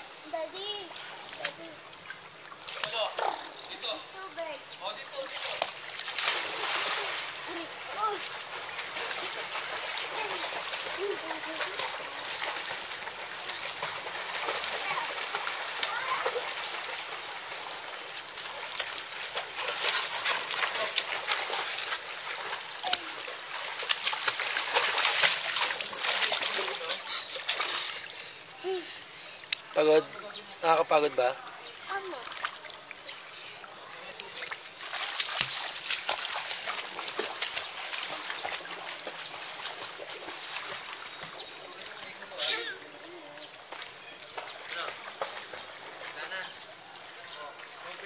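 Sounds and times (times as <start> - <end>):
child swimming with splashes: 0.0 - 48.0.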